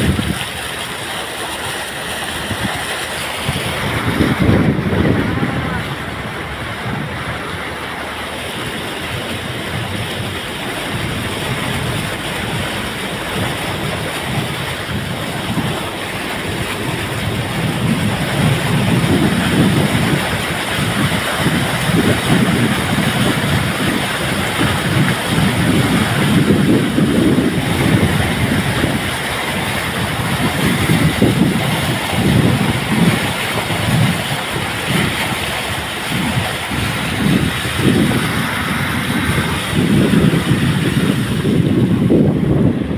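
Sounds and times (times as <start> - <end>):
vehicle splashing through floodwater: 0.0 - 42.9.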